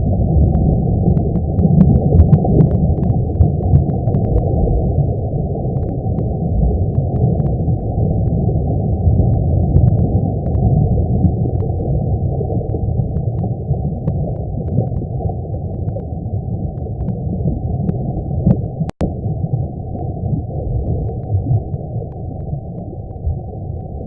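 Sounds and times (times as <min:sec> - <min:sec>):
faint scattered clicks: 0:00.4 - 0:08.5, 0:09.1 - 0:19.1, 0:20.8 - 0:24.0.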